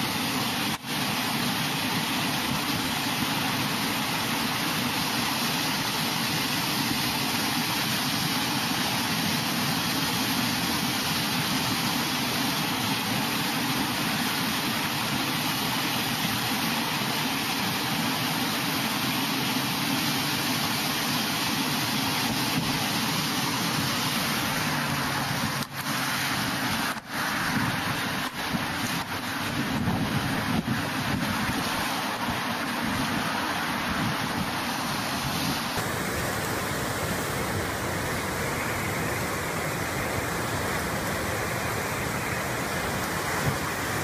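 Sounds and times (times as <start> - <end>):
water rushing over spillway: 0.0 - 44.0.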